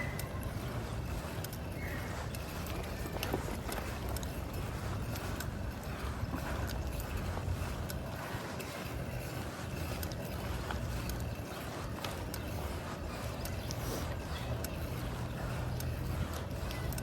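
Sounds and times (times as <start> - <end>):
bicycle rolling noise: 0.0 - 17.0
small clicks and rattles: 0.0 - 17.0
wind buffeting microphone: 0.0 - 17.0.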